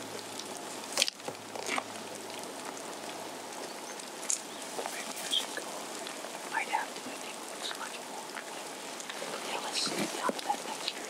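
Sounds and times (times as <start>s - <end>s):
light rain hissing: 0.0s - 11.0s.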